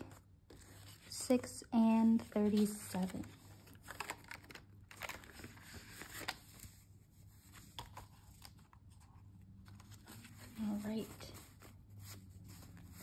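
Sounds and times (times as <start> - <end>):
paper and plastic rustling: 2.1 - 13.0.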